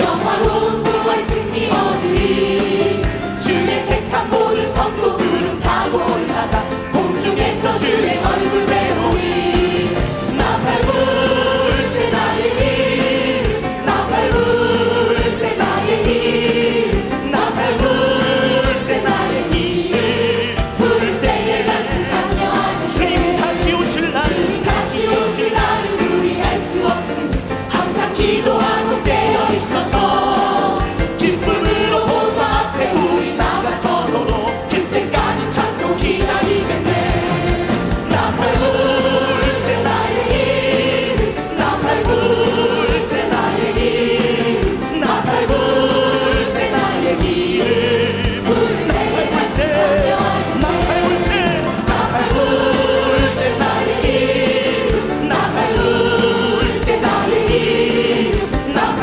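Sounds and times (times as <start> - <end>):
band accompaniment: 0.0 - 59.0
choir and congregation singing hymn: 0.0 - 59.0.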